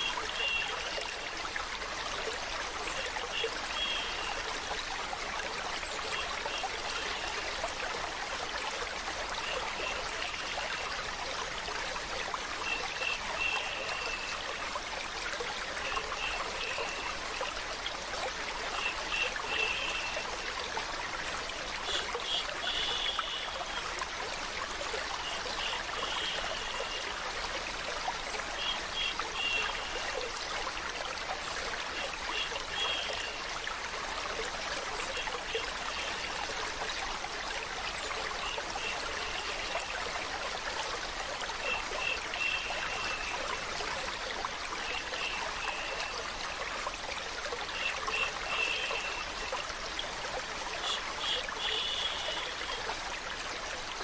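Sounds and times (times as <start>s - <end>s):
water running and trickling: 0.0s - 54.0s.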